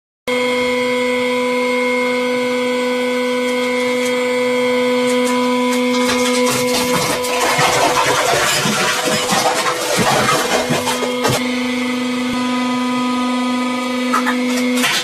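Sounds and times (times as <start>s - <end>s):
hydraulic press pump hum: 0.3s - 15.0s.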